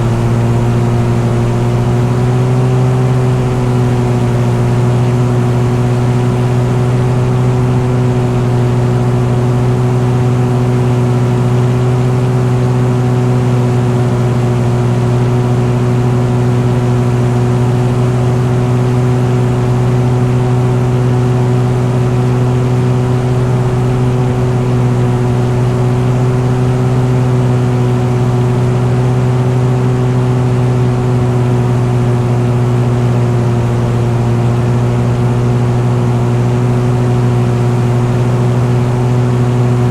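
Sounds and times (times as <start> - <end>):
aircraft piston engine humming: 0.0 - 39.9.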